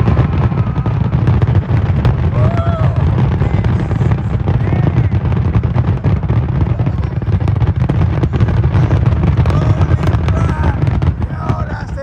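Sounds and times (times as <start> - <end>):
fireworks explosions: 0.0 - 12.0
heavy low rumble: 0.0 - 12.0.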